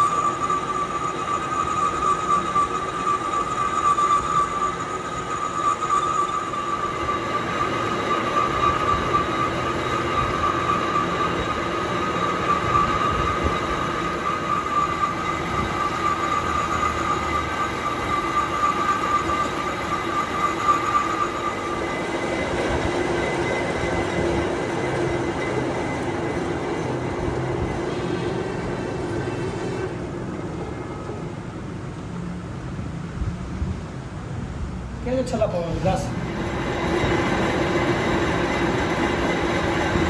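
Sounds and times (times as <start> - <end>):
machine high whine: 0.0 - 33.9, 35.1 - 40.0
machine low hum: 0.0 - 40.0.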